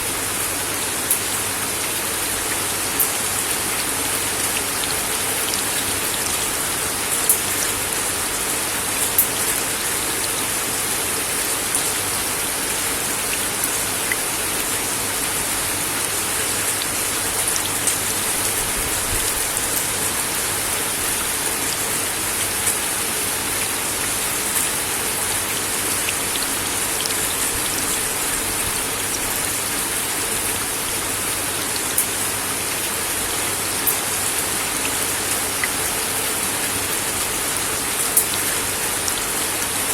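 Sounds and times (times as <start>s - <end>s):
rain on wooden deck: 0.0s - 39.9s.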